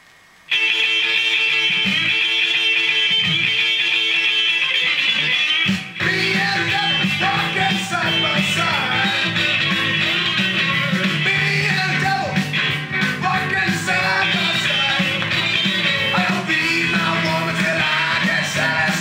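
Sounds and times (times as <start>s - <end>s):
rock music with electric guitar: 0.5s - 19.0s.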